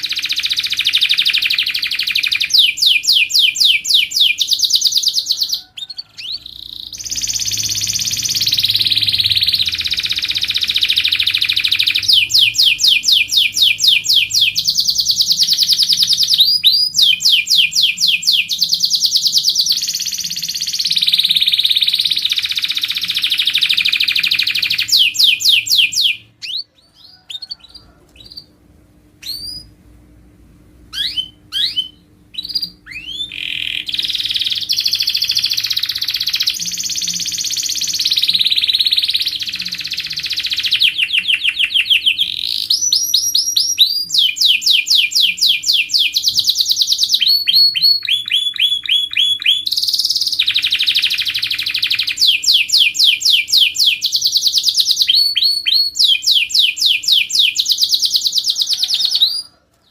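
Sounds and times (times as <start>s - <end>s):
canary singing trills: 0.0s - 28.6s, 29.2s - 29.8s, 30.9s - 59.9s.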